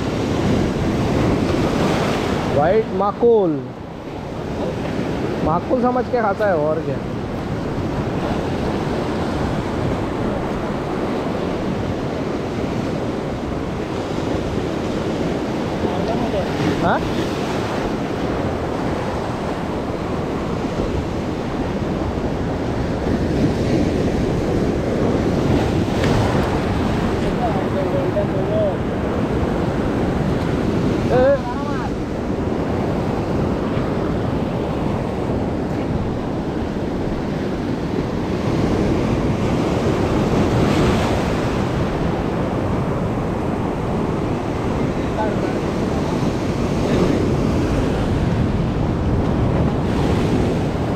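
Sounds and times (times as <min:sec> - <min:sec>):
surf washing over rocks: 0:00.0 - 0:50.9
wind buffeting microphone: 0:00.0 - 0:50.9.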